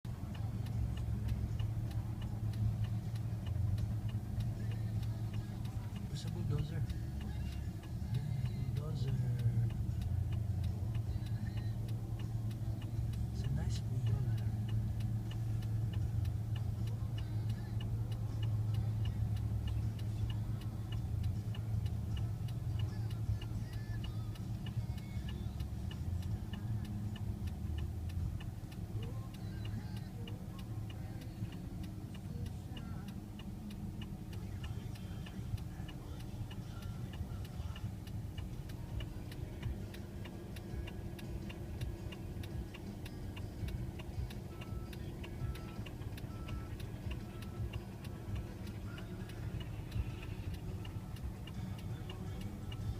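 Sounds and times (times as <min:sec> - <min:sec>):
vehicle engine humming: 0:00.0 - 0:52.9
light regular ticking: 0:00.1 - 0:52.9.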